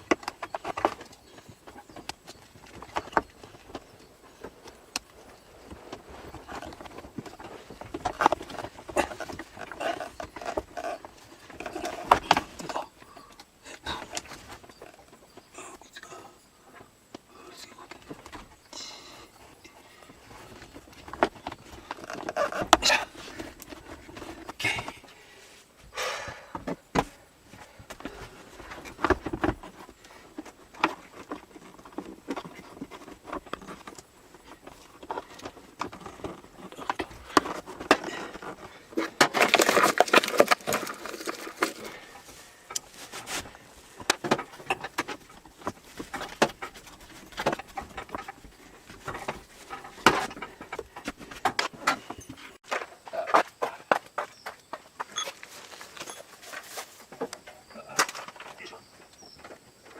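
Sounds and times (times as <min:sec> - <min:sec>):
objects being handled clattering: 0:00.0 - 0:59.9.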